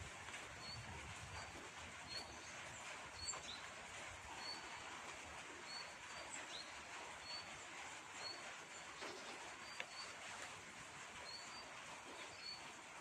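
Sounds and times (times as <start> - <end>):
faint outdoor hiss: 0.0 - 13.0
small birds chirping: 0.4 - 13.0.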